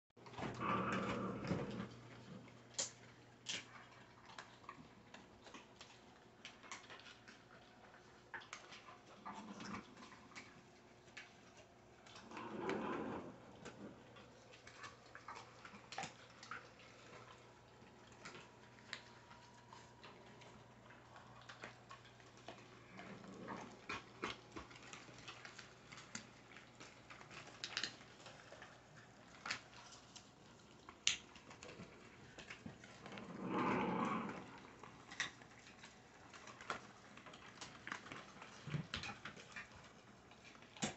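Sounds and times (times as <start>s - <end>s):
dogs crunching on chews: 0.2s - 40.9s.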